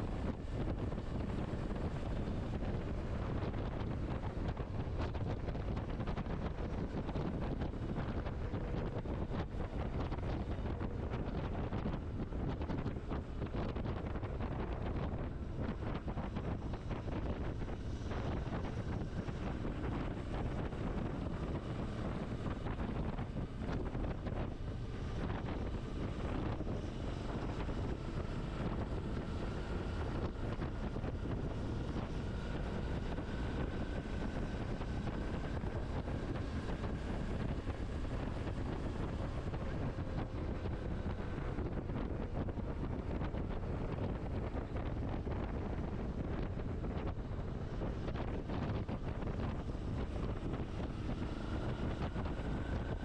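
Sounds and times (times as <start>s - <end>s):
faint thin whine: 0.0s - 53.0s
motorcycle engine running: 0.0s - 53.0s
wind rushing over microphone: 0.0s - 53.0s.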